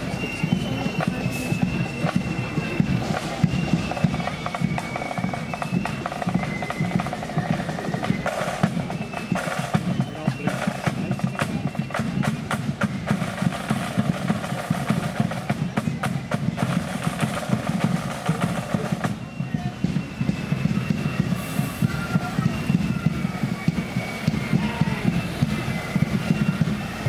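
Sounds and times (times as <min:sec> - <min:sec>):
flute melody: 0:00.0 - 0:27.0
snare drum rolls: 0:00.0 - 0:27.0.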